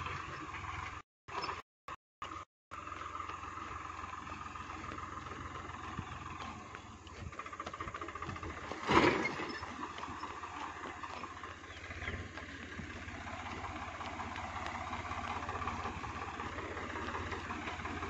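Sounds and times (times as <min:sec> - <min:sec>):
distant tractor engine chugging: 0:00.0 - 0:01.6, 0:02.2 - 0:18.0.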